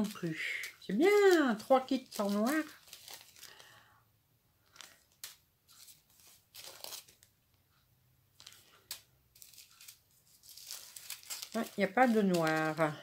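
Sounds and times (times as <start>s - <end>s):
plastic bags crinkling: 0.0s - 3.8s, 4.6s - 7.3s, 8.4s - 13.0s.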